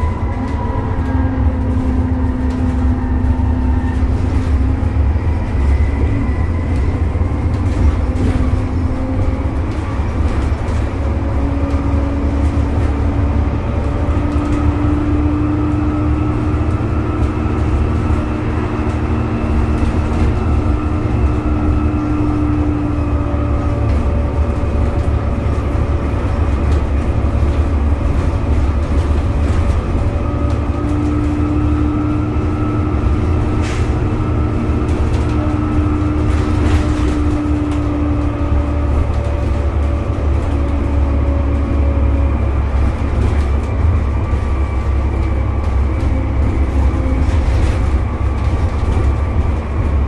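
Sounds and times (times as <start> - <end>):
bus diesel engine droning: 0.0 - 50.0
rear axle whine: 0.0 - 50.0.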